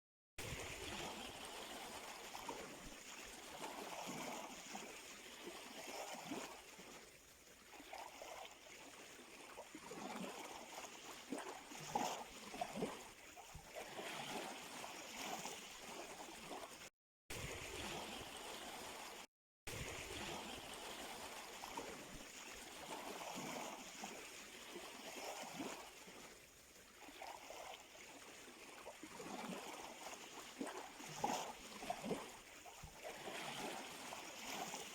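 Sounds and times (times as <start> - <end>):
sea waves lapping at shore: 0.4 - 34.9.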